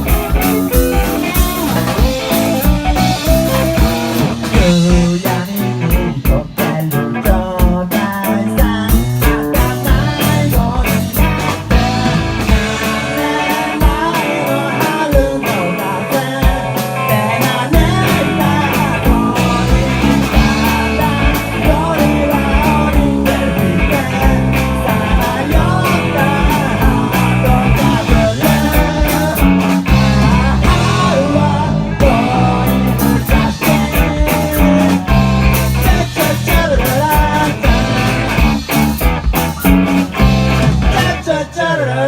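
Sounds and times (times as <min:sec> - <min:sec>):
rock band playing live: 0:00.0 - 0:42.0.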